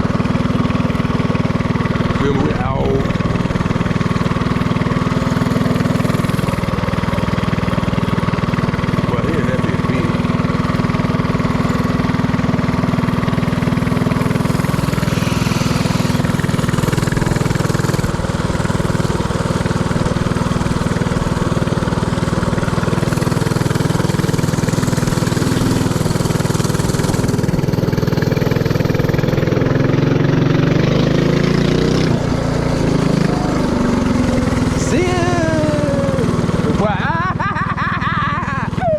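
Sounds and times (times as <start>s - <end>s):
mini-bike engine running: 0.0s - 38.9s.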